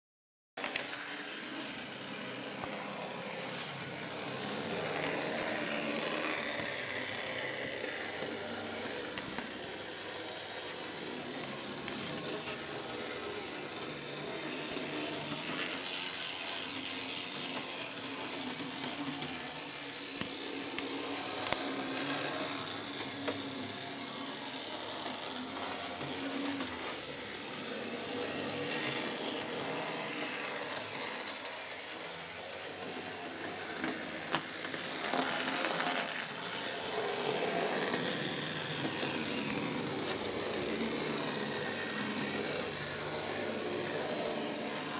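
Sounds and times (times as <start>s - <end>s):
model tram motor whirring: 0.6s - 44.9s.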